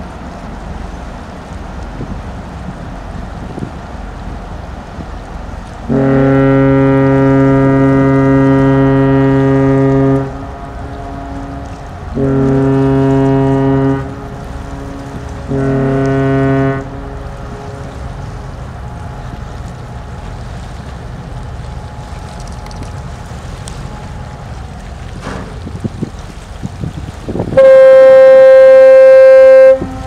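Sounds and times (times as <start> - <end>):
deep ship's horn blasts: 0.0 - 30.0
water noise: 0.0 - 30.0
wind: 0.0 - 30.0.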